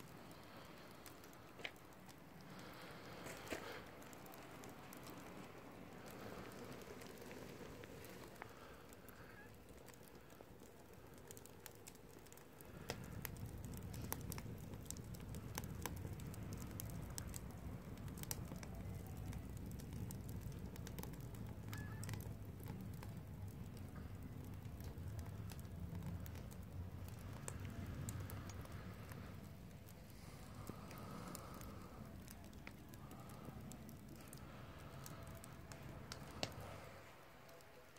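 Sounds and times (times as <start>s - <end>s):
wood fire crackling and popping: 0.0s - 37.9s.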